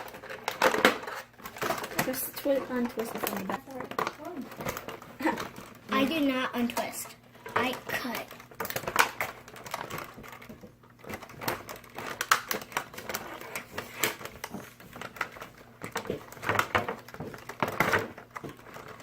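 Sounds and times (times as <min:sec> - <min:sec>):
plastic parts clicking and clacking: 0:00.0 - 0:19.0.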